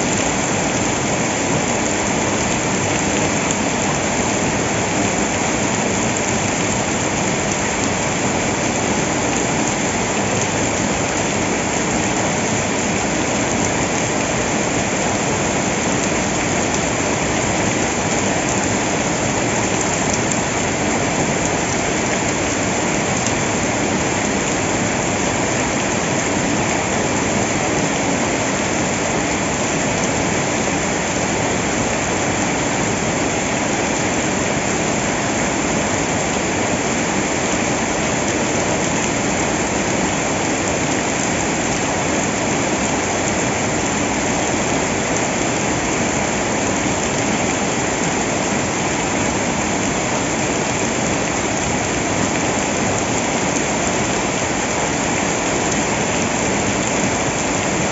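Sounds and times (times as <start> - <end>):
water rushing: 0.0 - 57.9.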